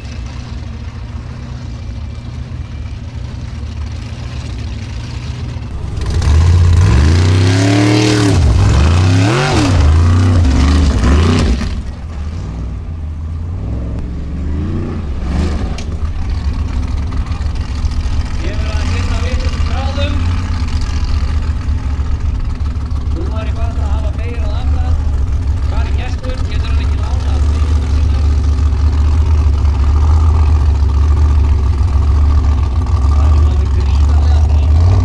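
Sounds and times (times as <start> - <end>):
buggy engine revving: 0.0 - 35.0.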